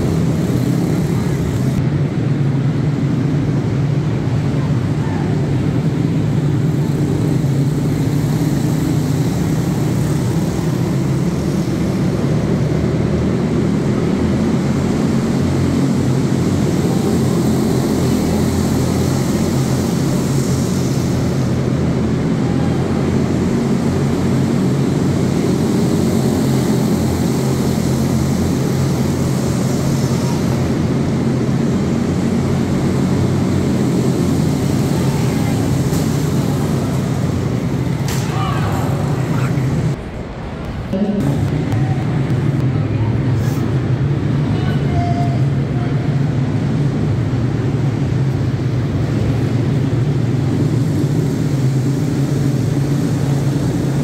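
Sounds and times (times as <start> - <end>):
racing kart engines droning: 0.0 - 54.0.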